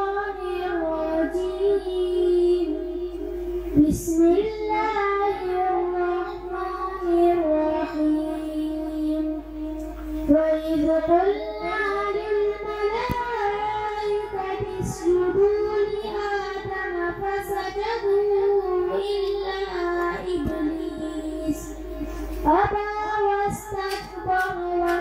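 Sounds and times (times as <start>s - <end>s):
boy reciting melodically: 0.0s - 25.0s.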